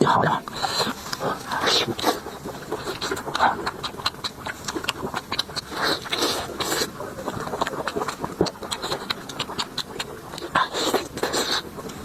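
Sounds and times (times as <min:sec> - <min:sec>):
slurps: 0:00.0 - 0:12.0
wet chewing and lip smacks: 0:00.2 - 0:12.0.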